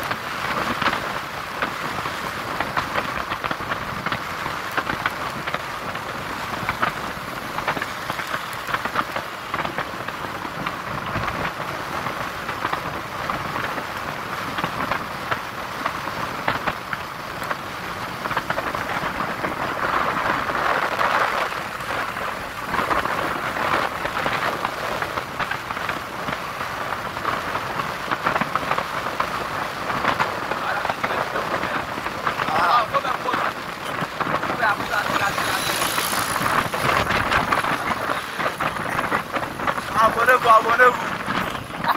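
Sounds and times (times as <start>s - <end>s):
scooter engine and road noise: 0.0s - 41.9s
wind rushing over microphone: 0.0s - 41.9s.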